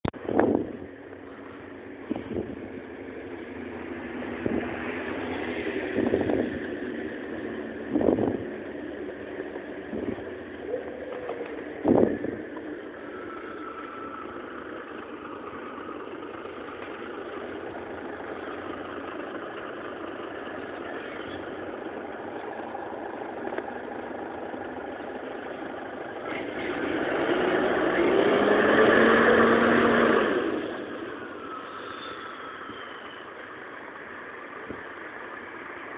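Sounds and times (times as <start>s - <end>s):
bus accelerating: 0.0s - 35.9s
bus engine idling: 0.0s - 35.9s.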